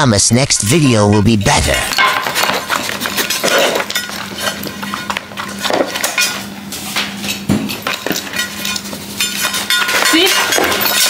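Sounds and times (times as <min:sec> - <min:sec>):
clicks and clatter on hard surface: 0:01.9 - 0:11.0.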